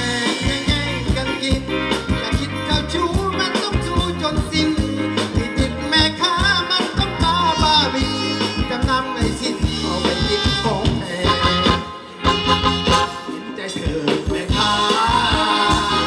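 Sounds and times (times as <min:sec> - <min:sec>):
person singing: 0:00.0 - 0:12.0, 0:12.8 - 0:16.0
live band dance music: 0:00.0 - 0:16.0
steady drum beat: 0:00.0 - 0:16.0.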